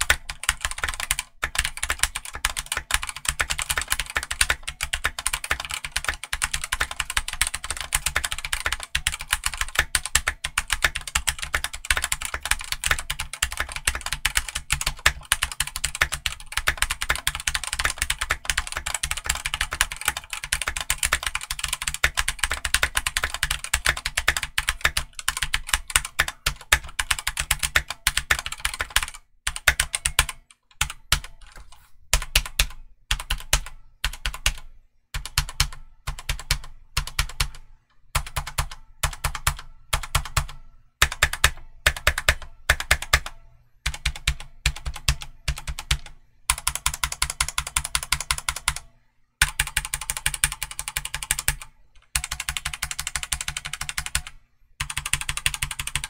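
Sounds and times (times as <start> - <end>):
typing on mechanical keyboard: 0.0 - 48.8, 49.4 - 56.0.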